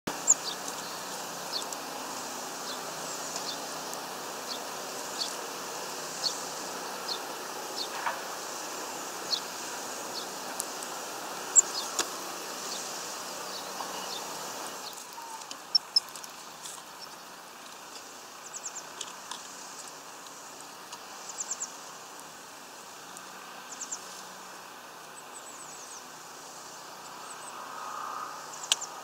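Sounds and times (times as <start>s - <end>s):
background hiss: 0.1s - 29.0s
songbirds chirping: 0.1s - 29.0s.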